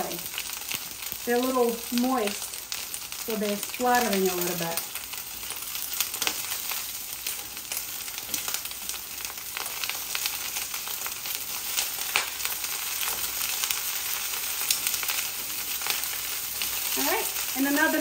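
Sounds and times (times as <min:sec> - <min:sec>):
zucchini sizzling in a skillet: 0:00.0 - 0:18.0.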